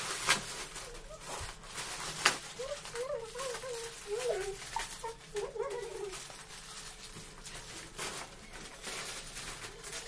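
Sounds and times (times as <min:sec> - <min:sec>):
chip packets crinkling: 0:00.0 - 0:10.0.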